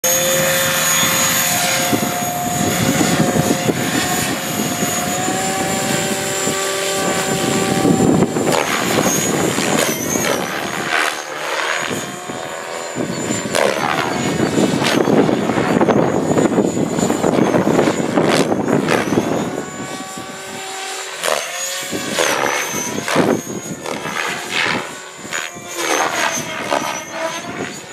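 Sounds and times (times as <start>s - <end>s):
model helicopter rotor whine: 0.0s - 27.9s
wind buffeting microphone: 0.1s - 11.1s, 11.7s - 27.9s.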